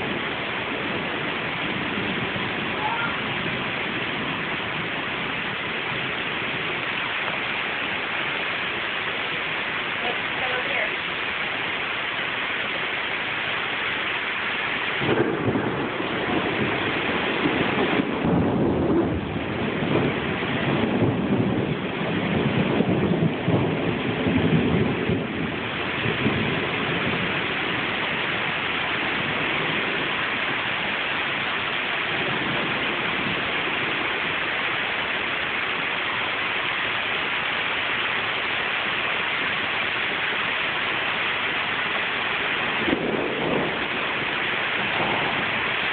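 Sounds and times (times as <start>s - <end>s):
heavy rain pouring: 0.0s - 45.9s
thunder rumbling: 0.0s - 45.9s.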